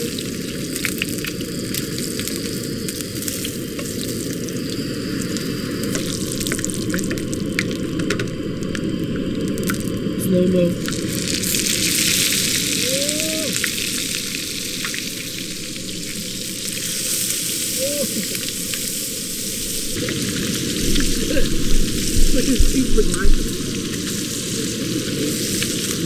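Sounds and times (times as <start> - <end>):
fish sizzling in pan: 0.0 - 26.0.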